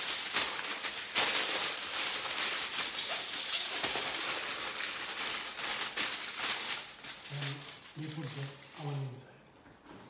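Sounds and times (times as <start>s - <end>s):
aluminium foil crinkling: 0.0s - 9.2s.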